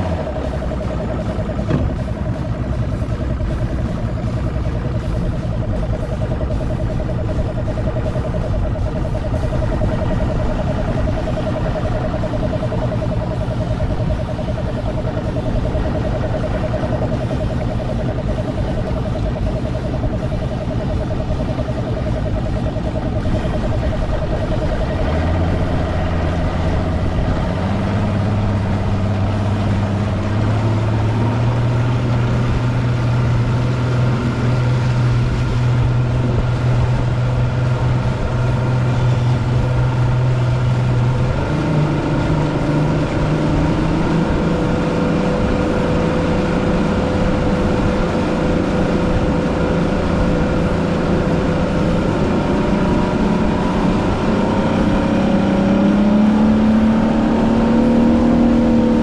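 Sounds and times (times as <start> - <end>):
boat motor running: 0.0 - 59.0.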